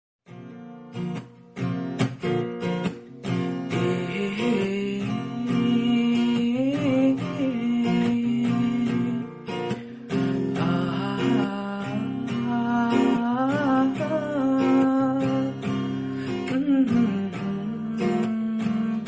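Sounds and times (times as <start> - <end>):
strummed acoustic guitar: 0.3 - 19.0.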